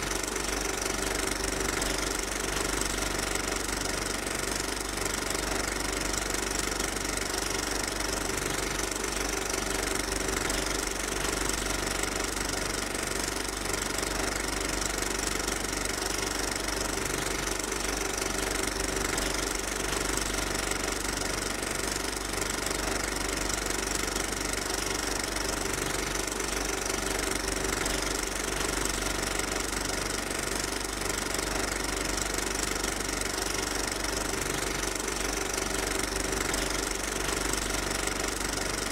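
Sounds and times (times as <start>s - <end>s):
machine drone with hum tones: 0.0s - 38.9s.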